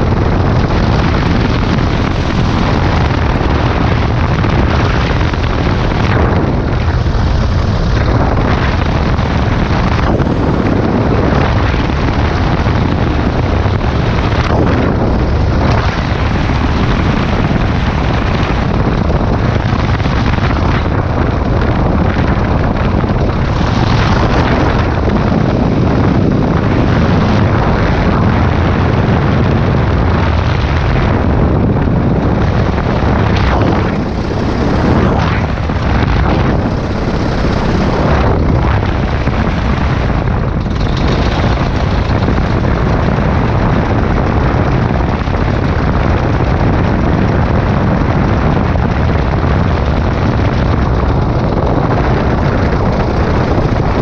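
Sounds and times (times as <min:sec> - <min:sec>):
light aircraft engine running: 0:00.0 - 0:54.0
wind buffeting microphone: 0:00.0 - 0:54.0.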